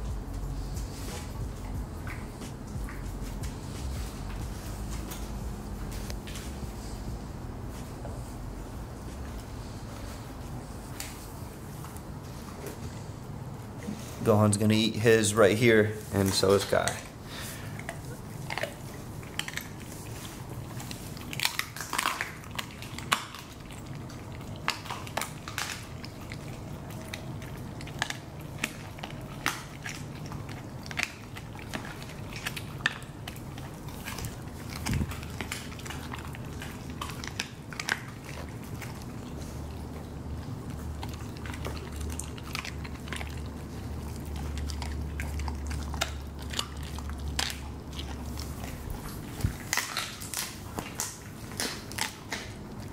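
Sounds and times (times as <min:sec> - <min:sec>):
dogs crunching bones: 0:00.0 - 0:52.9.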